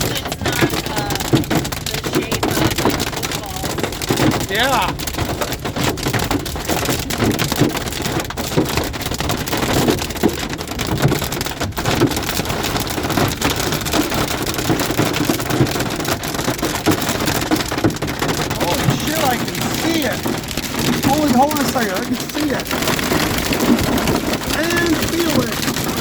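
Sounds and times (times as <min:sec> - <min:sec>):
hail and rain drumming on car roof: 0:00.0 - 0:26.0.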